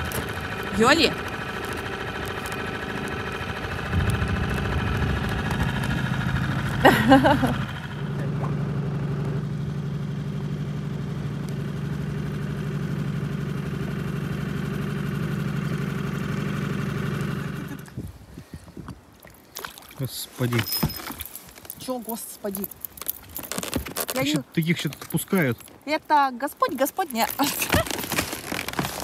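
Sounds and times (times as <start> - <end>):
outboard motor running: 0.0 - 21.8, 27.3 - 29.0.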